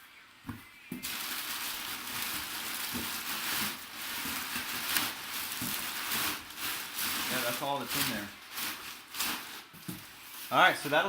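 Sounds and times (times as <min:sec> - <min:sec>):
packing material crinkling: 0:00.9 - 0:11.0.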